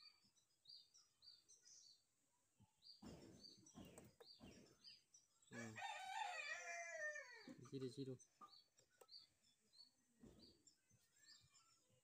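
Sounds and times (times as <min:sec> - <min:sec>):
faint small birds chirping: 0:00.0 - 0:12.0.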